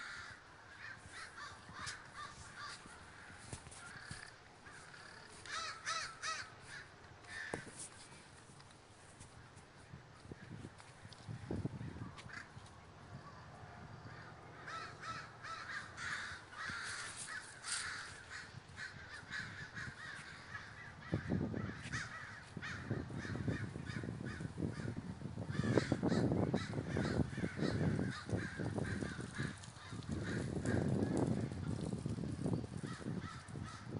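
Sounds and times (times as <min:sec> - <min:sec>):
crows cawing: 0:00.0 - 0:08.2, 0:11.9 - 0:12.6, 0:14.0 - 0:31.5, 0:32.8 - 0:33.9.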